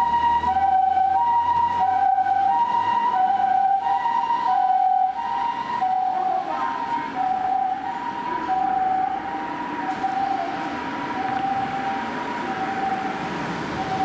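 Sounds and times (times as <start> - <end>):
ambulance two-tone siren: 0.0 - 14.0
road noise: 0.0 - 14.0.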